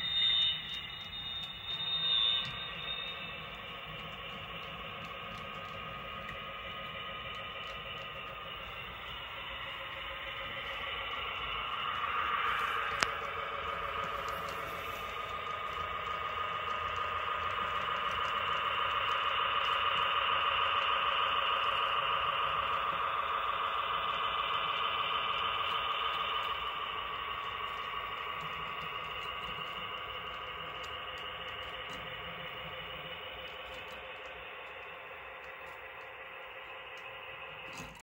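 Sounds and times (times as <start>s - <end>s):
model train engine sound from speaker: 0.0s - 38.0s.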